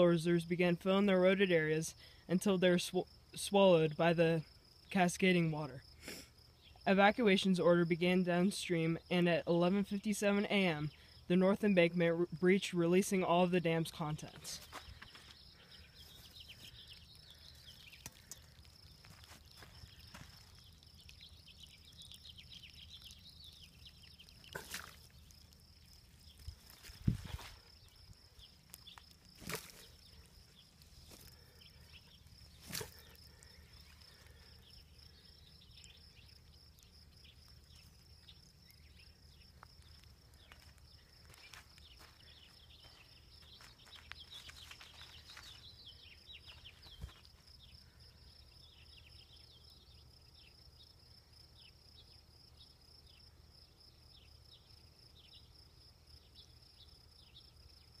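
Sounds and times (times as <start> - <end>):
high-pitched insect trill: 0.0 - 58.0.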